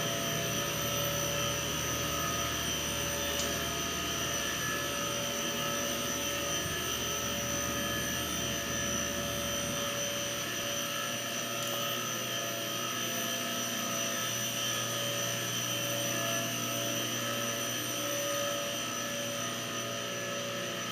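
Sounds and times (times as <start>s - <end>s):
mechanical drone: 0.0s - 20.5s.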